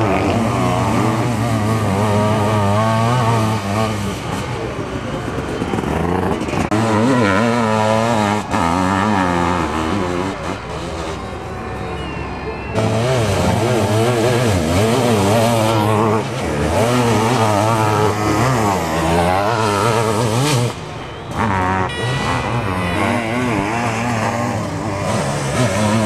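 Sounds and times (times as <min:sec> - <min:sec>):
motorcycle engines revving hard: 0:00.0 - 0:26.0.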